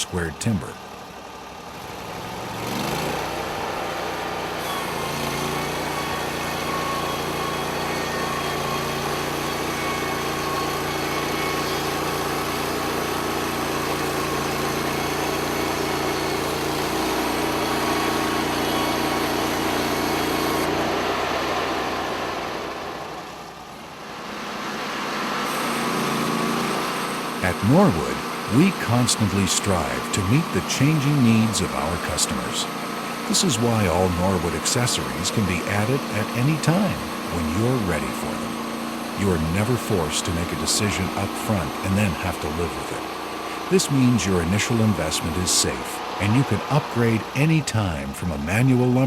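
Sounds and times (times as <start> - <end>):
sawmill petrol engine running: 0.0 - 49.0.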